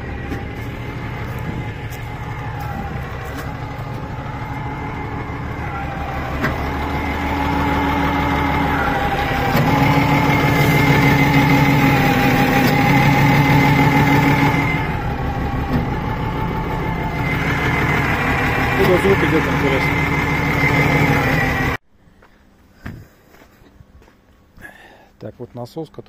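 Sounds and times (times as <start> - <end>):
forklift diesel engine running: 0.0 - 21.8
steady engine whine: 0.0 - 21.8.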